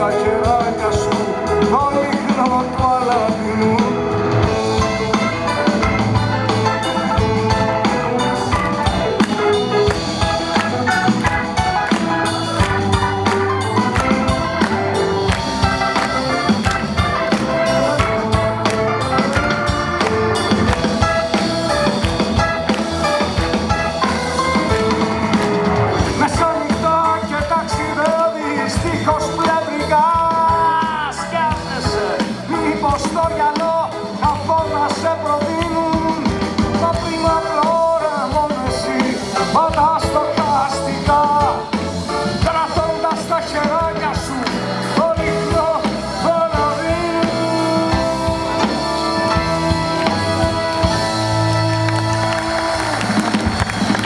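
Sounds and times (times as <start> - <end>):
drum kit beat: 0.0 - 54.0
electric bass: 0.0 - 54.0
keyboards: 0.0 - 54.0.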